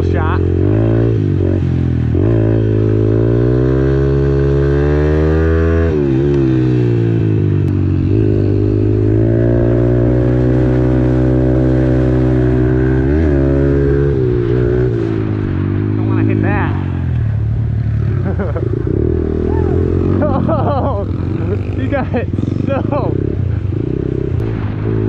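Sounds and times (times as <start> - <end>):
motorbike engine revving: 0.0 - 25.0.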